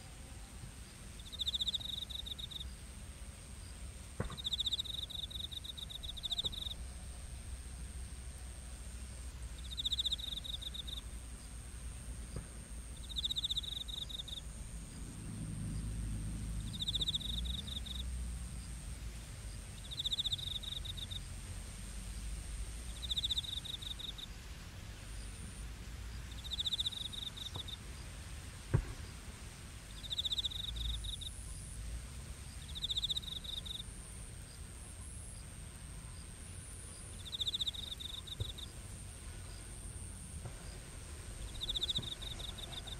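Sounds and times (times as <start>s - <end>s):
faint low rumble: 0.0s - 42.9s
crickets trilling: 0.9s - 2.9s, 3.6s - 6.8s, 9.5s - 21.4s, 22.1s - 24.4s, 25.0s - 28.1s, 29.0s - 31.8s, 32.4s - 42.9s.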